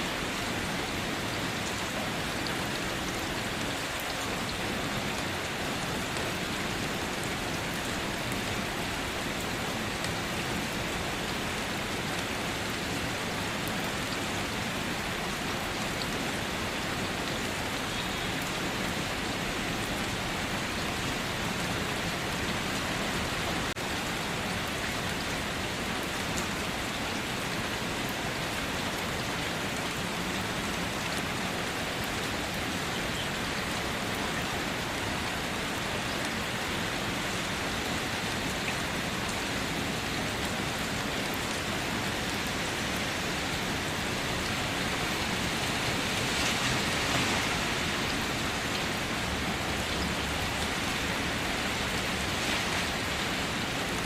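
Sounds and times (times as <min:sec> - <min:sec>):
rain pattering on surfaces: 0:00.0 - 0:54.0.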